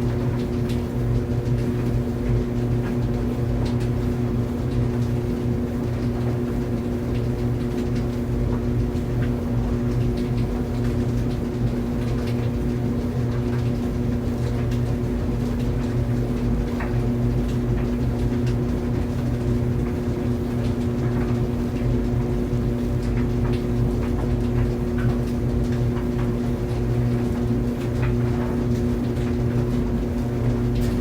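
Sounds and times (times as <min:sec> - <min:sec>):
laundry dryer running: 0:00.0 - 0:31.0.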